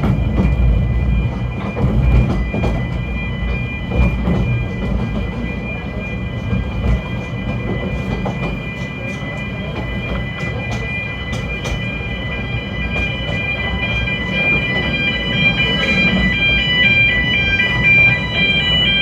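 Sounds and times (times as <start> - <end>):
train rumbling: 0.0 - 19.0
train wheels clicking: 0.0 - 19.0.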